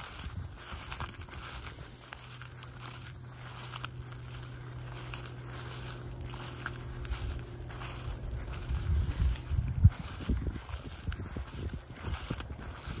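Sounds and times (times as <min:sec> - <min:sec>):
distant harvester engine humming: 0:00.0 - 0:13.0
wind rustling dry wheat: 0:00.0 - 0:13.0.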